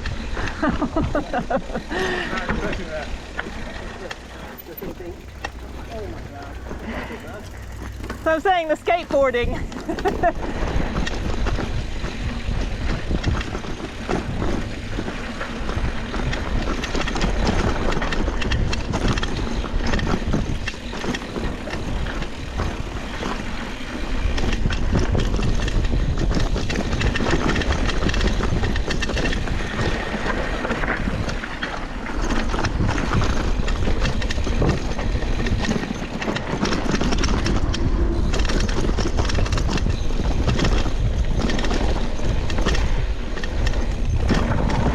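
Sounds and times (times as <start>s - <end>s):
bike clattering over rough ground: 1.8s - 44.9s
wind rushing over microphone: 4.2s - 44.9s.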